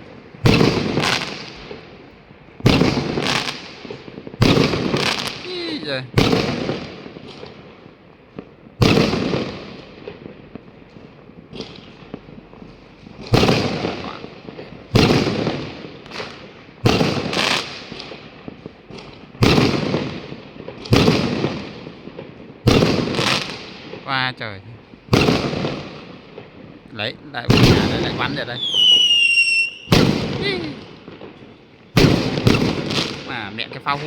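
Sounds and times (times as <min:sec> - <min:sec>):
fireworks exploding: 0:00.0 - 0:34.0.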